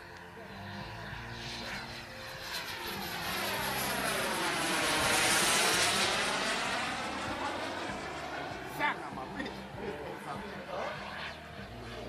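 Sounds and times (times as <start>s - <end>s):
model jet turbine roar: 0.0s - 12.0s.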